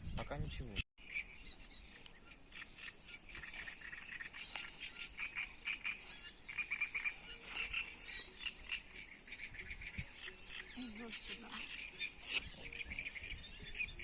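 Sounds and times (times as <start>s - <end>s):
frogs croaking: 1.0s - 14.0s.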